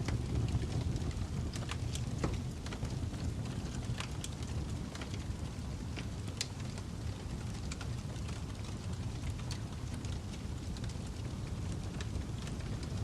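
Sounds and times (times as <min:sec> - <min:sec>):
logs crackling and popping: 0:00.0 - 0:13.0
low rumble of flame: 0:00.0 - 0:13.0.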